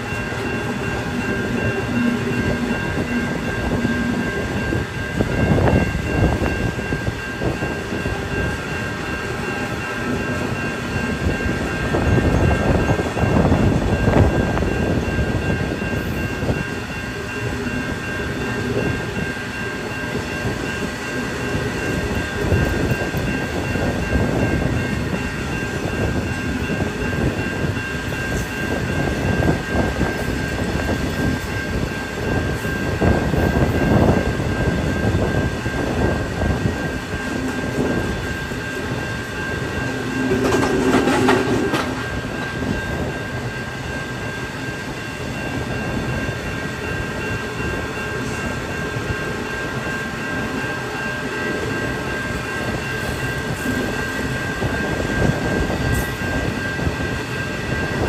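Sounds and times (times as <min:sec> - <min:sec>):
train wagons rumbling on rails: 0:00.0 - 0:58.0.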